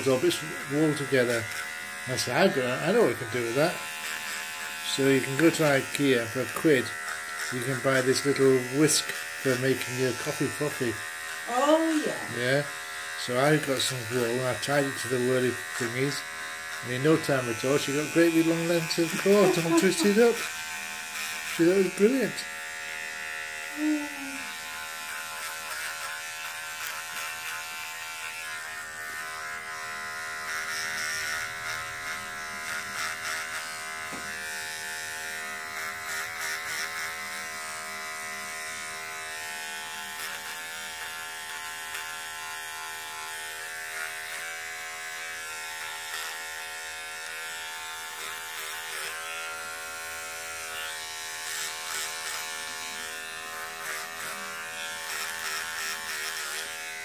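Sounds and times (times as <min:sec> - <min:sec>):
electric trimmer buzzing: 0:00.0 - 0:57.0.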